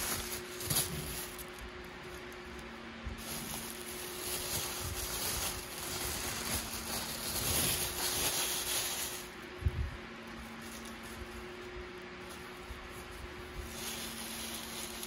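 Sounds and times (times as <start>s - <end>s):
tissue paper rustling: 0.0s - 2.6s, 3.2s - 9.4s, 10.3s - 15.0s.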